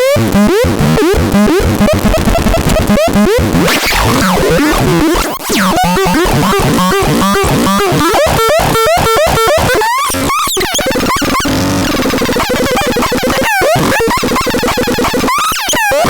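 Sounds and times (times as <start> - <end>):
synthesizer harsh electronic tones: 0.0 - 16.0.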